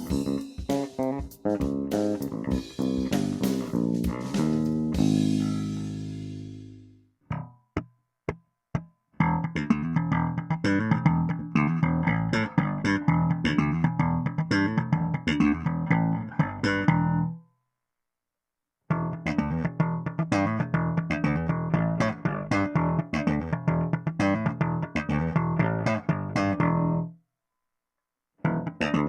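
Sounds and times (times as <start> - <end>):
electric bass plucked notes: 0.0 - 17.4, 18.9 - 27.1, 28.4 - 29.0.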